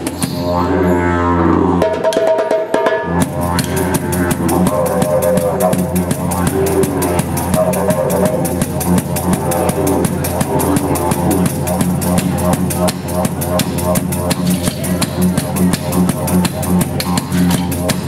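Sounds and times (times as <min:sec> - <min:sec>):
didgeridoo drone: 0:00.0 - 0:02.2, 0:03.0 - 0:18.0
hand drum beat: 0:01.8 - 0:18.0.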